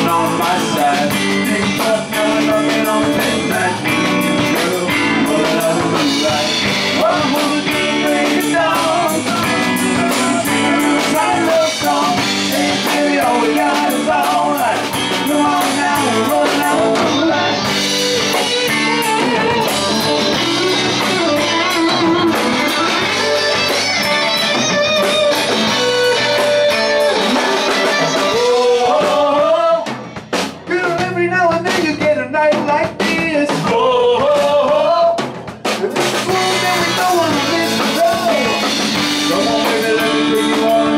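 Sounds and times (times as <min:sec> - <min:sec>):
person singing: 0:00.0 - 0:30.1, 0:30.7 - 0:40.9
country-rock band playing: 0:00.0 - 0:40.9.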